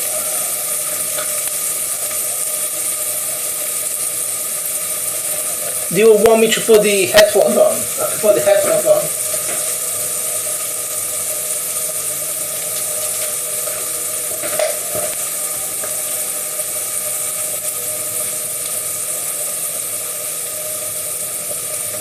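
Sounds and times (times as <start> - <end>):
onion sizzling in a pan: 0.0 - 22.0.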